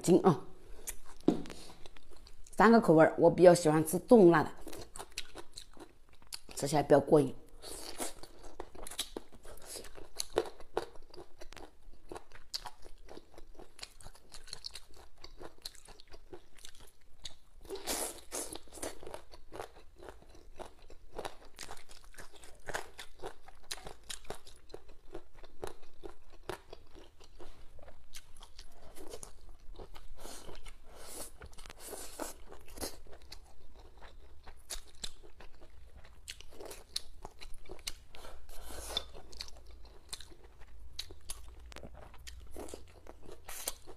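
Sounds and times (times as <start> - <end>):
person chewing crunchy food: 0.6 - 2.6, 4.6 - 6.6, 7.5 - 43.9.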